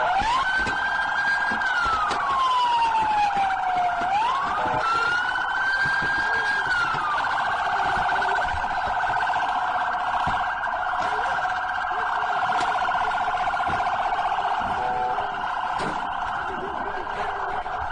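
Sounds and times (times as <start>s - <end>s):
police siren wailing: 0.0s - 17.9s
siren yelp warbling: 0.0s - 17.9s.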